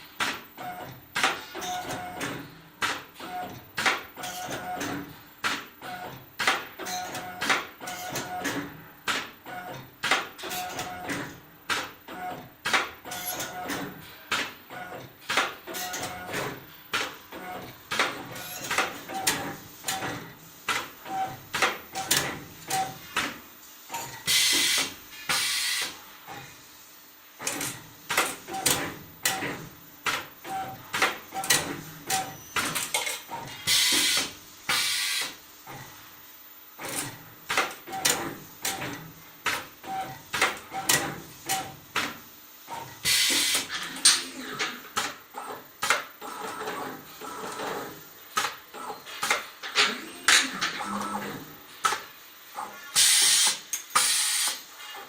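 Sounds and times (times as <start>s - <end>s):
machine clicks and knocks: 0.2s - 26.5s, 27.4s - 35.9s, 36.8s - 52.1s.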